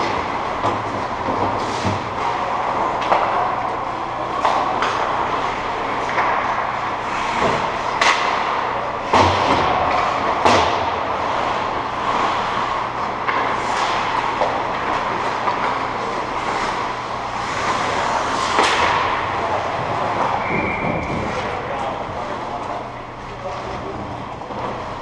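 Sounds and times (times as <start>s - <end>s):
skates scraping on ice: 0.0s - 22.7s
hockey sticks and puck clacking: 0.0s - 25.0s.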